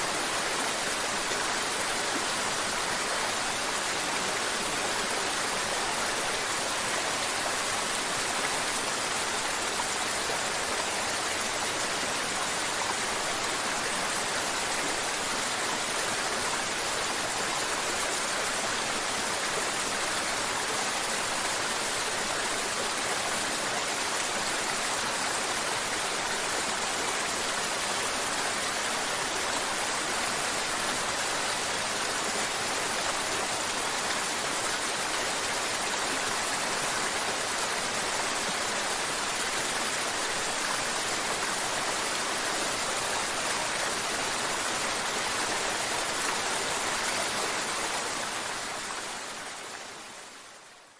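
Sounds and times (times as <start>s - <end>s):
river water flowing over rocks: 0.0s - 50.9s.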